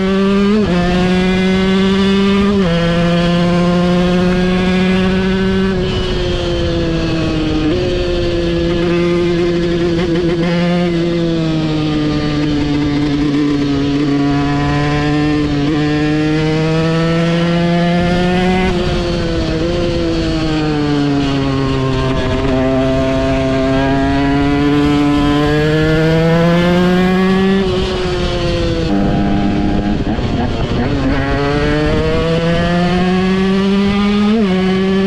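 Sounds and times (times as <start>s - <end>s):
two-stroke motorcycle engine revving: 0.0s - 35.0s.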